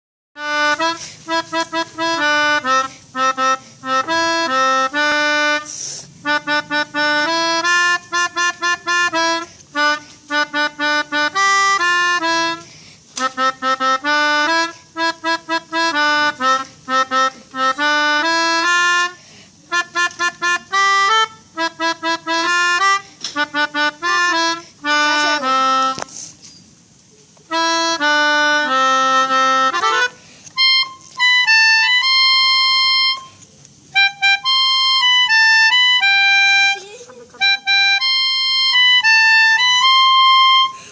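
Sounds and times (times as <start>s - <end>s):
melodica playing staccato jingles: 0.4s - 26.3s, 27.5s - 33.4s, 34.0s - 40.9s.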